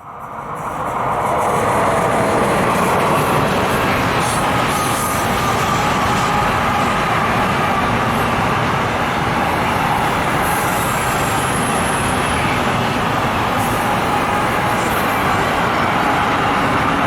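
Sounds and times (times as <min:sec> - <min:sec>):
train wheels rolling on rail: 0:00.0 - 0:17.0.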